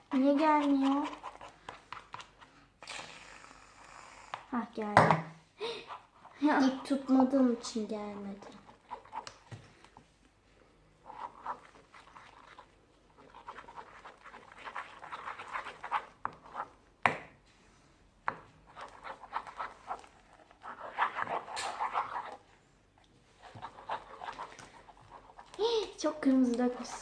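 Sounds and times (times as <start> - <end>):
slime squelching being stirred: 0.0 - 2.8, 5.8 - 17.0, 18.3 - 27.0.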